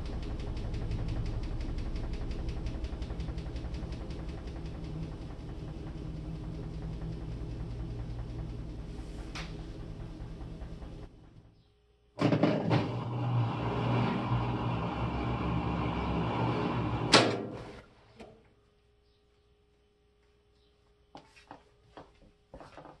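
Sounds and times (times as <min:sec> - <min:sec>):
washing machine humming: 0:00.0 - 0:18.5.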